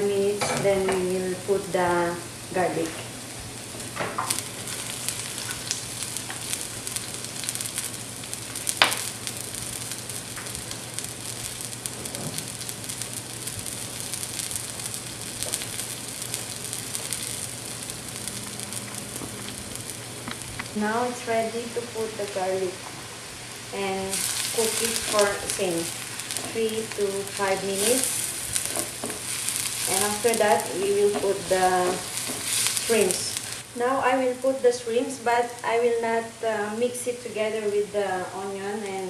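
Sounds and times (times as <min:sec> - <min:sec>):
onion sizzling in a pan: 0:00.0 - 0:39.0.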